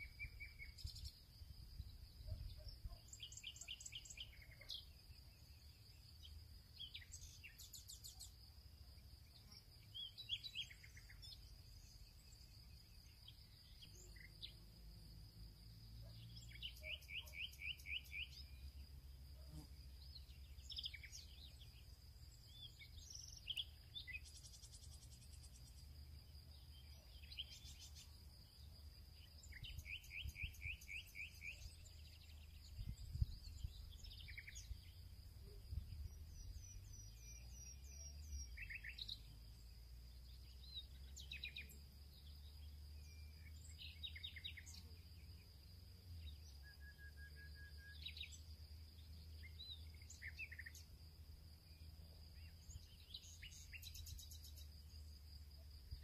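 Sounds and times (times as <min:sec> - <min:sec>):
small birds chirping and trilling: 0:00.0 - 0:46.9, 0:47.7 - 0:56.0.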